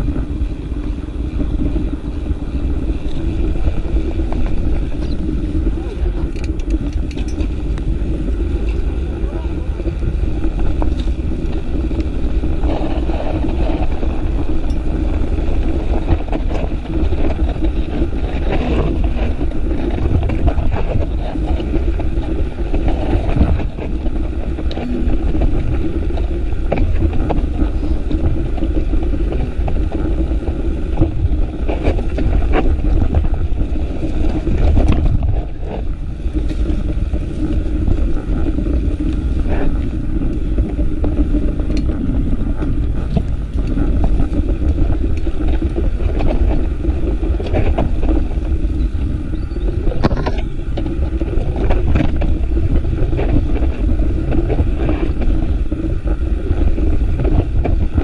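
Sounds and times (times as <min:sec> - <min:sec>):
bike tyres rolling on dirt: 0:00.0 - 0:58.0
wind buffeting microphone: 0:00.0 - 0:58.0
bike knocks and rattles: 0:09.8 - 0:58.0.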